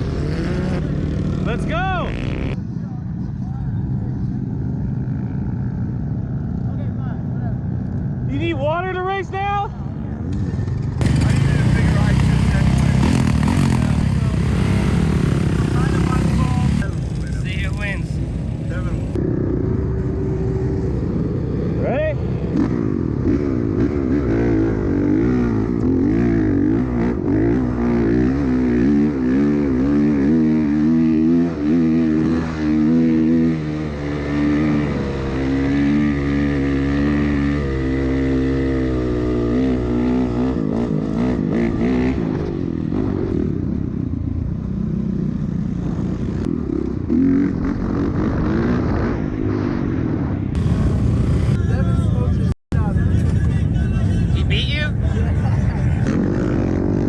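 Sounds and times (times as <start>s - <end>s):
dirt bike engine at full throttle: 0.0s - 57.0s.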